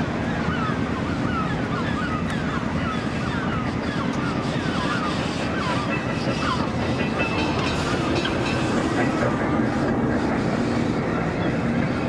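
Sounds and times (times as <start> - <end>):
tram running: 0.0 - 12.0.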